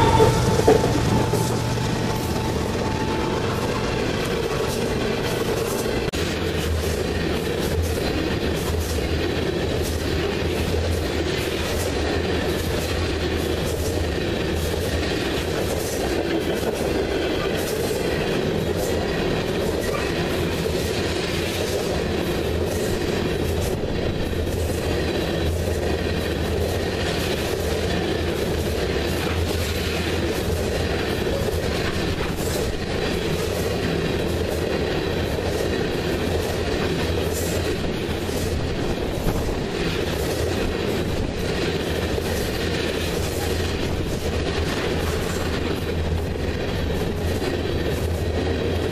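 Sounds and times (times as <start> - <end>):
train wheels rumbling on rail: 0.0 - 48.9
clicks and clacks of rails: 4.2 - 48.9.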